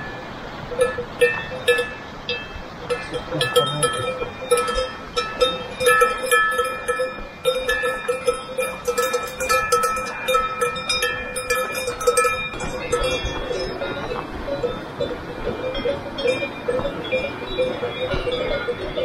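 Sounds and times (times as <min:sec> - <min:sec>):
cowbells clanking: 0:00.0 - 0:19.0.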